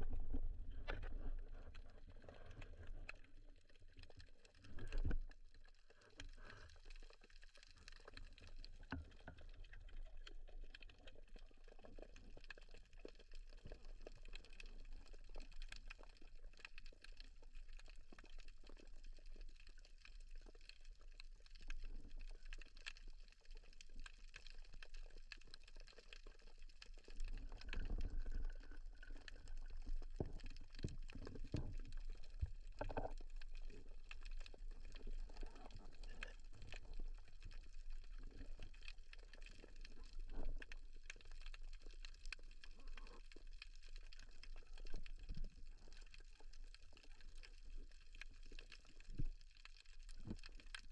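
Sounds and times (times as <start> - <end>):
faint underwater crackling and clicking: 0.0 - 50.9
gurgling water movement: 0.0 - 50.9.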